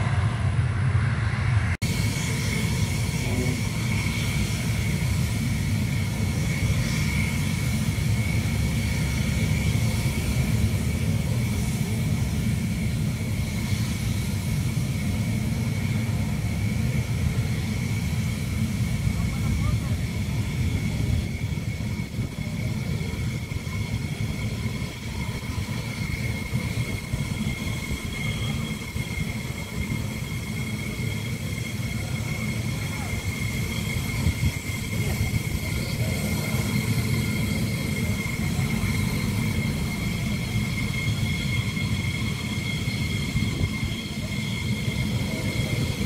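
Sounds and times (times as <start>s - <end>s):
jet engine high whine: 0.0s - 46.0s.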